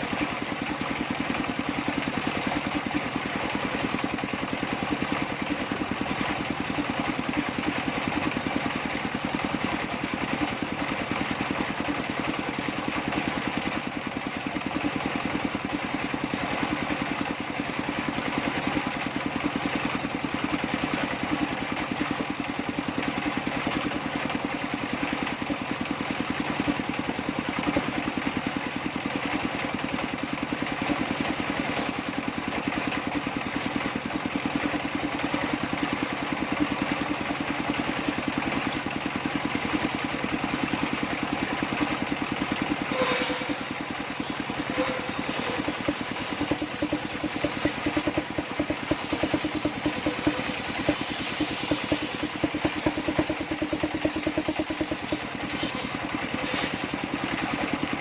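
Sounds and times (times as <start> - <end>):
engine driving circular saw: 0.0 - 58.0.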